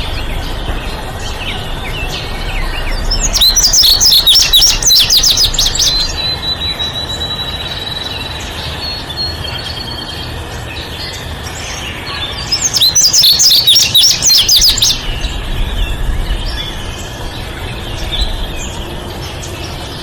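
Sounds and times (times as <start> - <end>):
small bird chirping: 0.0 - 9.9, 12.3 - 19.8
steady background noise: 0.0 - 20.0.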